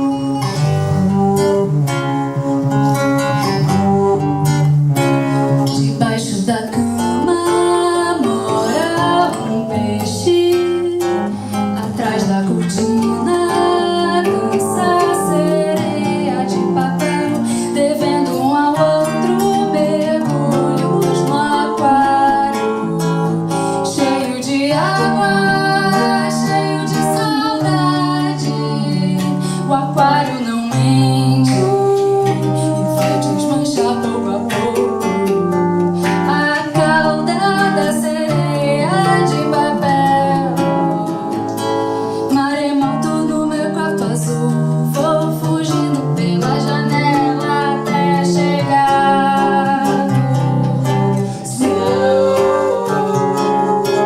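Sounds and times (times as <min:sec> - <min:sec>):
acoustic band music: 0:00.0 - 0:54.0.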